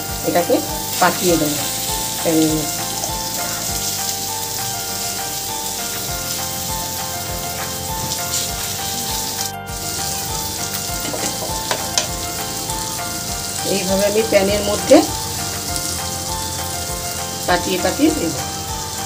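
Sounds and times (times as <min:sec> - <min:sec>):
noodles sizzling in a pan: 0:00.0 - 0:19.0
soft background music: 0:00.0 - 0:19.0.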